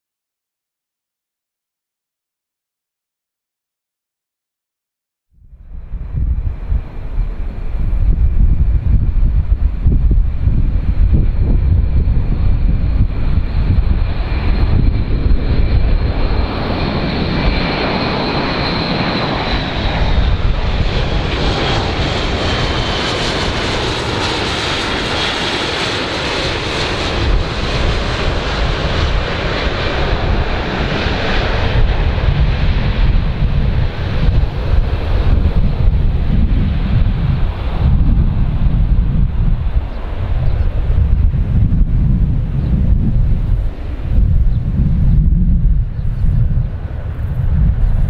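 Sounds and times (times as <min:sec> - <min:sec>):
turboprop aircraft flying past: 0:05.4 - 0:48.0.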